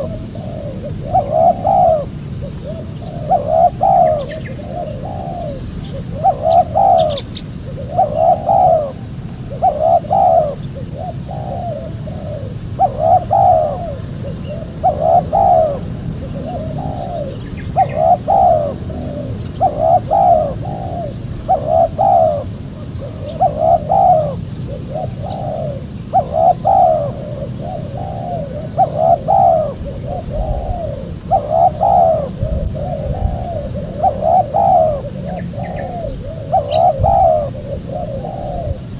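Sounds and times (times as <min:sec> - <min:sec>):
dove cooing: 0:00.0 - 0:38.9
low background hum: 0:00.0 - 0:38.9.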